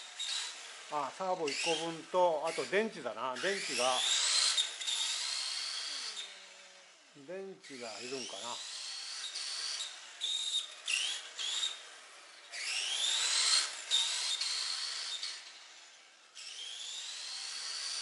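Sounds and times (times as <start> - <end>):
toy car electric motor whining: 0.0 - 18.0.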